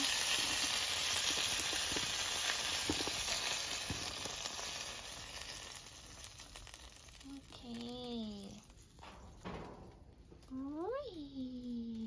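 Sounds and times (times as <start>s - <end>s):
hot oil sizzling in a pan: 0.0s - 9.9s.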